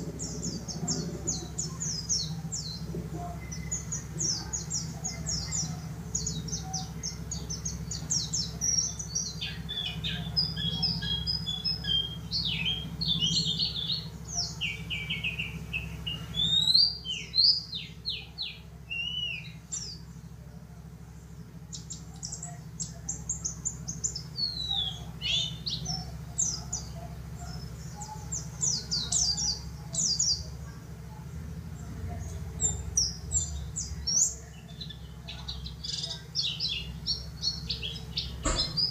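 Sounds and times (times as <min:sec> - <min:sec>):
bird twittering song: 0:00.0 - 0:38.9
steady low hum: 0:00.0 - 0:38.9.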